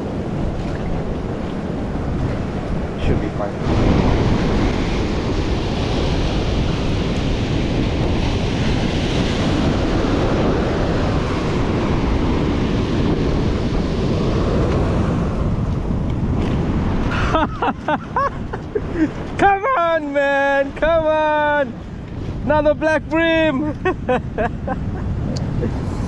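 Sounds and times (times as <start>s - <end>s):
surf breaking on rocky shore: 0.0s - 26.0s
wind buffeting the microphone: 0.0s - 26.0s.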